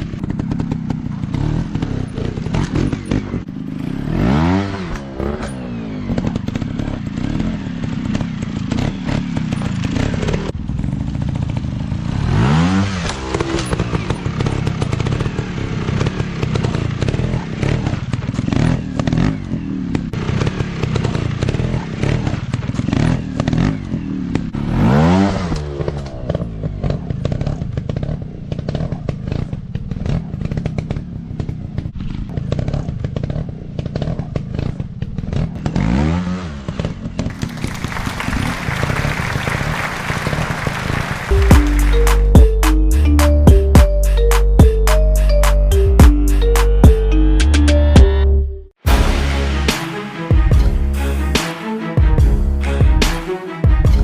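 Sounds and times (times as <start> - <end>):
dirt bike engines revving: 0.0 - 48.2.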